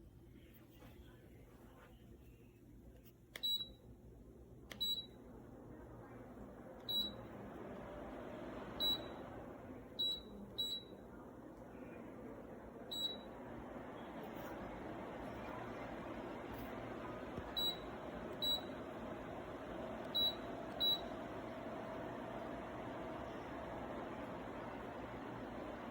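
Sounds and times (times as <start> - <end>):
fan air rushing: 4.2 - 25.9.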